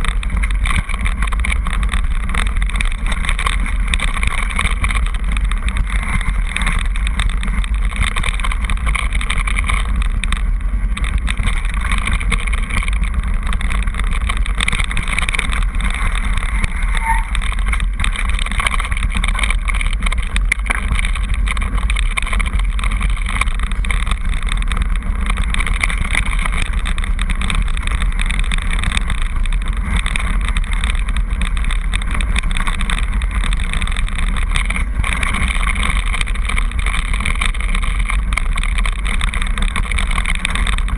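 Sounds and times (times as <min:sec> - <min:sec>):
bike tyres on loose rock: 0:00.0 - 0:40.9
faint rattling ticks: 0:00.0 - 0:40.9
wind on microphone: 0:00.0 - 0:40.9.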